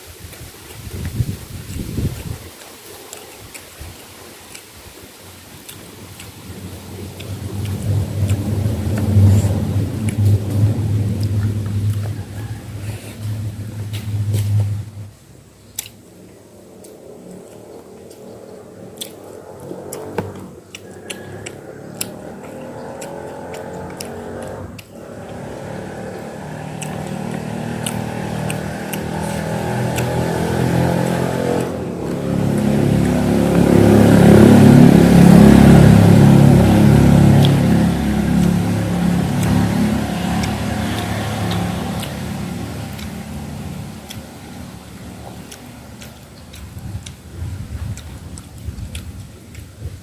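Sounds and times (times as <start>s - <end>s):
wind buffeting microphone: 0.0s - 50.0s
eating clicks: 0.2s - 14.9s, 15.6s - 50.0s.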